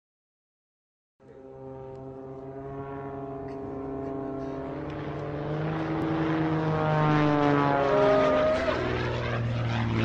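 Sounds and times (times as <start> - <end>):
propeller plane flying past: 1.2 - 10.0.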